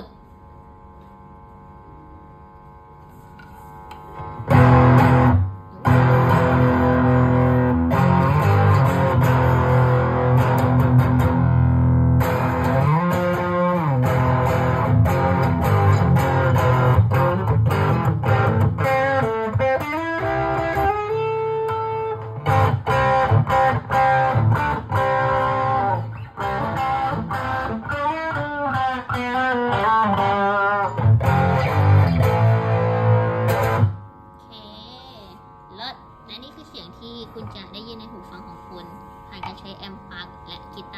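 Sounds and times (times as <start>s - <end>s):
electric guitar playing: 3.1s - 40.9s.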